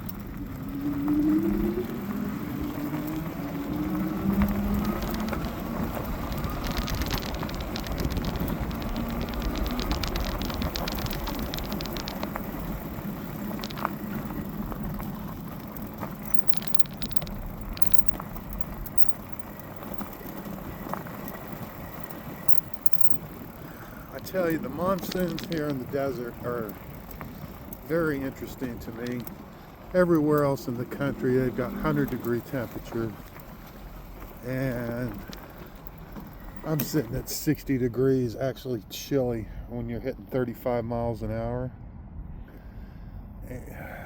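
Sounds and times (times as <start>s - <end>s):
wind rumble on microphone: 0.0s - 36.9s
ticks and crackles: 0.0s - 37.7s.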